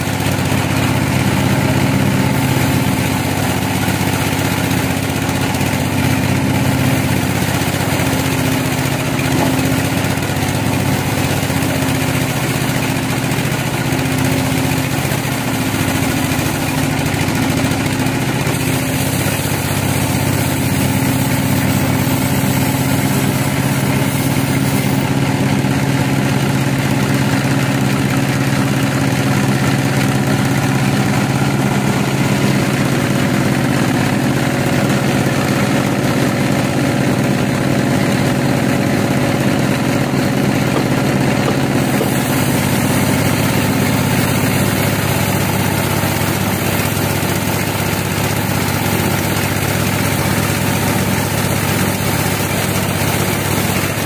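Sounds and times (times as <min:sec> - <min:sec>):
band saw sawing log: 0:00.0 - 0:54.0.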